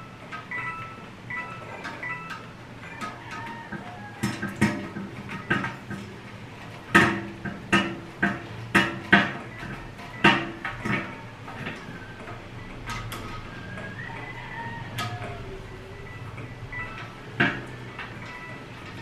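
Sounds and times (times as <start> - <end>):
metal rods knocking and clanking: 0.0 - 19.0.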